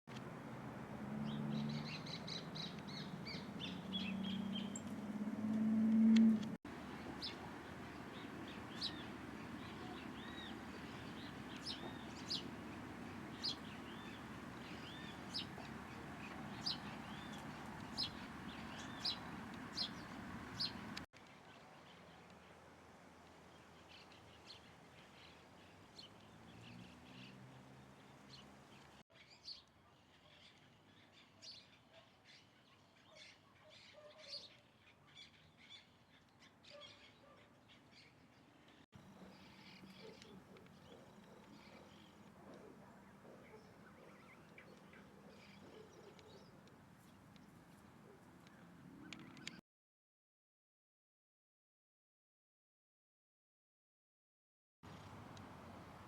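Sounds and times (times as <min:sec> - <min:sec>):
small birds chirping: 0:01.2 - 0:05.1, 0:06.2 - 0:22.5, 0:23.5 - 0:49.6.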